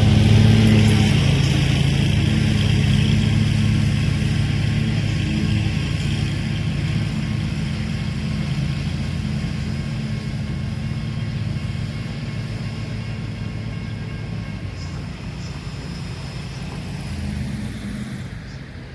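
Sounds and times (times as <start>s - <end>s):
diesel locomotive engines droning: 0.0s - 18.9s.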